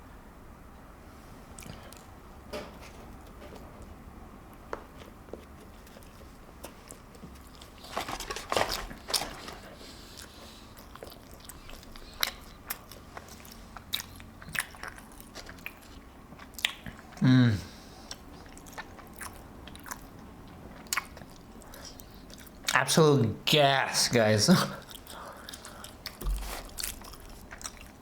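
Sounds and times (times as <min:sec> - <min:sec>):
chewing and crunching food: 0:01.4 - 0:02.2, 0:02.8 - 0:22.9, 0:24.7 - 0:28.0.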